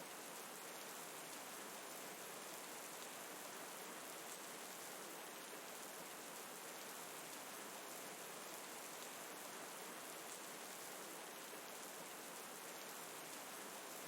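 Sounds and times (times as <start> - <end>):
faint rain falling: 0.0 - 14.0.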